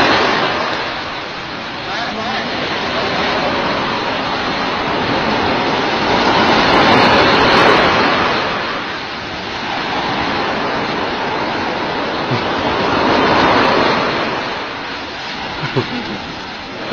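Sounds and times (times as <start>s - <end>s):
surf washing on beach: 0.0s - 16.9s.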